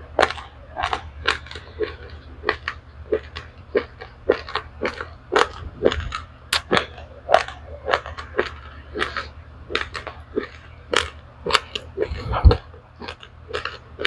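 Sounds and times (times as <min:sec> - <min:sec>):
rice grains crunching between teeth: 0:00.0 - 0:14.0.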